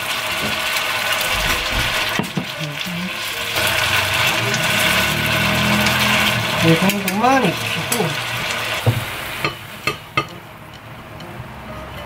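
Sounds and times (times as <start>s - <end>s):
sauce pouring: 0.0s - 10.1s
food sizzling in a frying pan: 0.0s - 10.9s.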